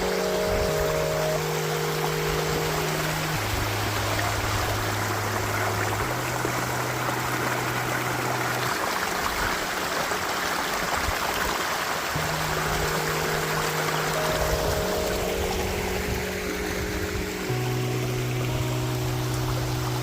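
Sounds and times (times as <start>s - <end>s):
low background music: 0.0s - 10.8s, 12.2s - 20.0s
flowing water rushing: 0.0s - 20.0s.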